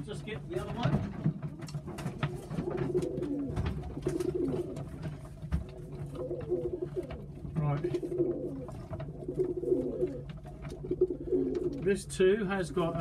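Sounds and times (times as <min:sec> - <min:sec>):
pigeons cooing: 0:01.3 - 0:13.0.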